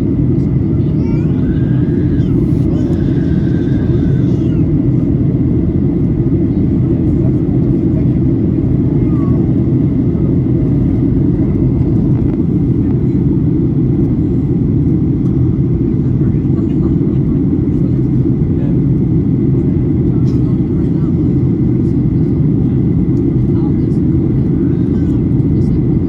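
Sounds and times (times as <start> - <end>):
airliner engine rumble in cabin: 0.0 - 26.0.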